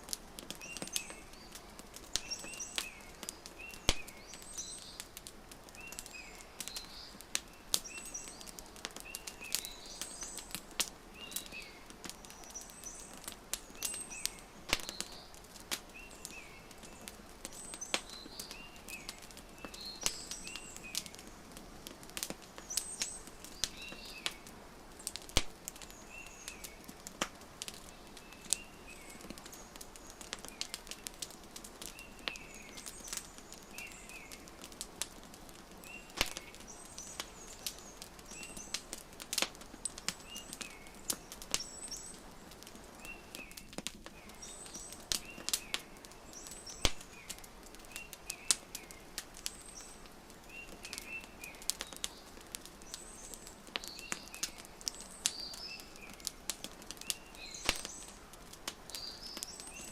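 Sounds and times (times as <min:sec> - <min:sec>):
wood fire crackling: 0:00.0 - 0:59.9
small birds chirping: 0:00.1 - 0:59.9.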